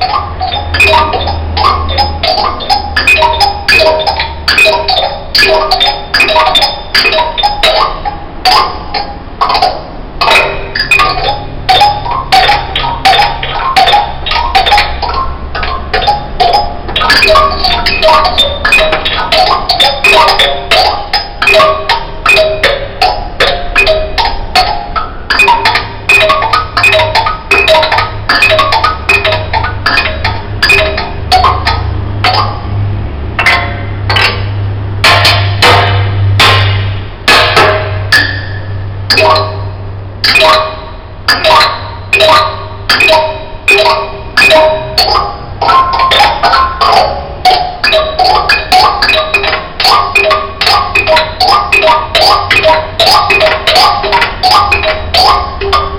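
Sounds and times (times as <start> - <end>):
mallet percussion music: 0.0 - 55.9.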